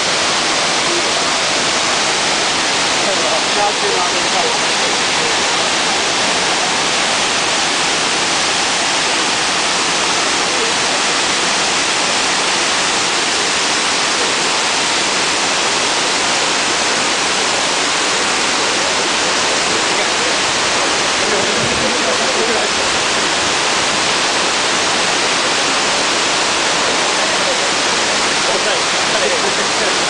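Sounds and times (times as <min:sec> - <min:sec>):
stream splashing over rocks: 0:00.0 - 0:30.0
waterfall rushing: 0:00.0 - 0:30.0.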